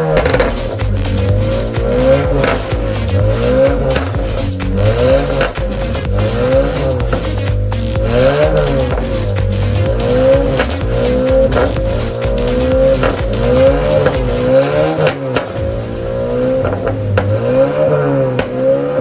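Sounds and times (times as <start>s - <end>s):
exhaust pops and bangs: 0.0s - 18.8s
car engine revving: 0.0s - 19.0s.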